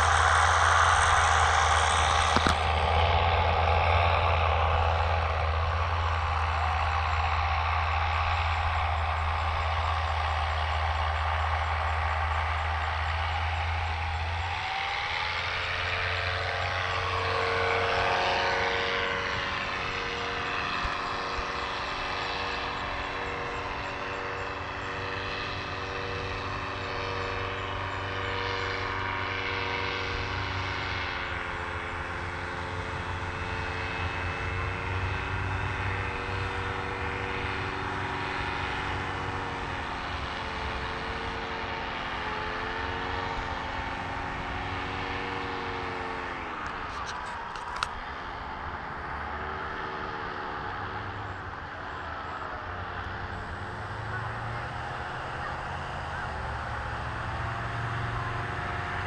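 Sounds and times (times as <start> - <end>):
small aircraft engine drone: 0.0 - 59.0.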